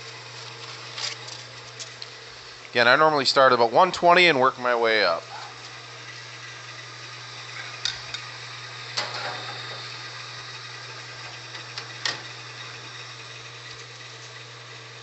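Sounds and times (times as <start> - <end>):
wood lathe humming: 0.0 - 15.0.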